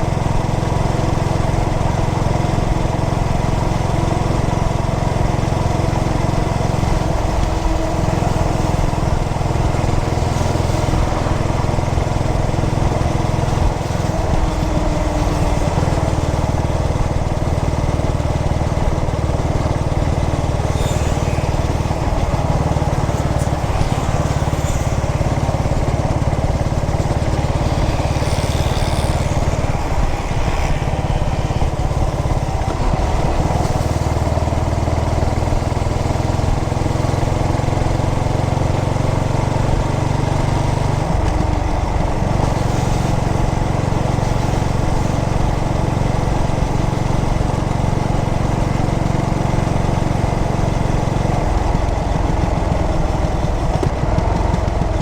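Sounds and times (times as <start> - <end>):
single-cylinder engine running: 0.0 - 55.0.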